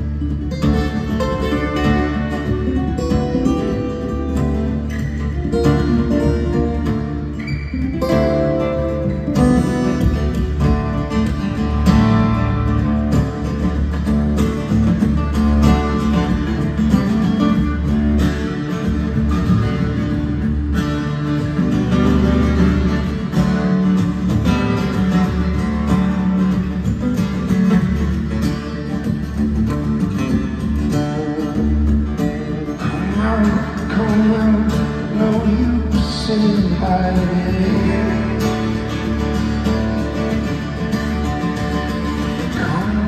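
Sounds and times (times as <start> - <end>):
two acoustic guitars playing: 0.0 - 43.0.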